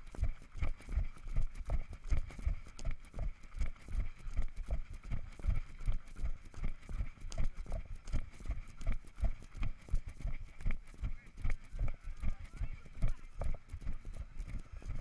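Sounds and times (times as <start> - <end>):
running footsteps on gravel: 0.0 - 15.0.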